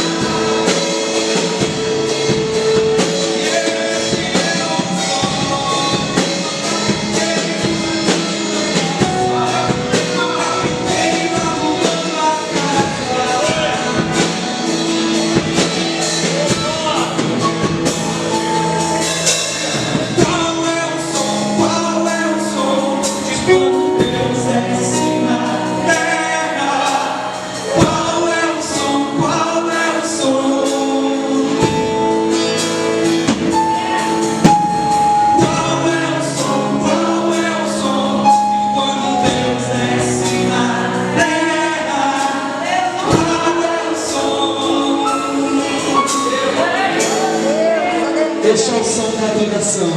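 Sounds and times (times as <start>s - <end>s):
man singing: 0.0s - 32.6s, 33.4s - 49.9s
band with steady beat: 0.0s - 49.9s.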